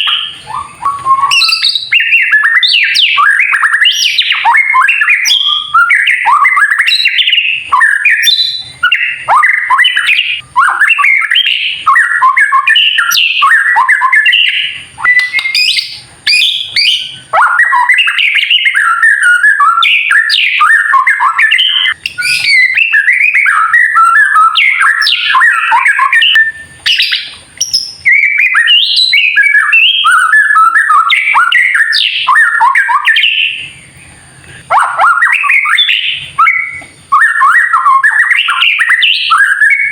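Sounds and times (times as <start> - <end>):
songbird chattering and whistling: 0.0 - 39.9.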